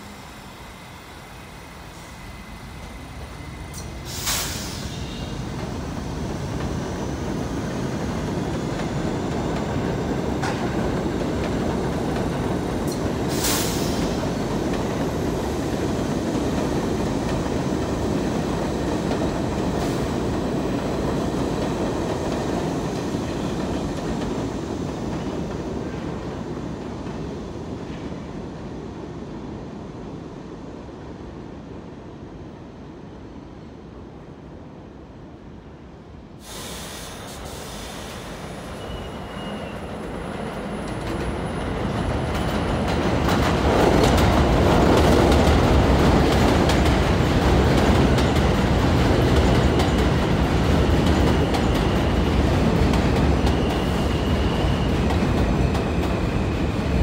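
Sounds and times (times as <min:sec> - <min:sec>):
train wheels rumbling on rails: 0:00.0 - 0:30.5, 0:36.4 - 0:57.0.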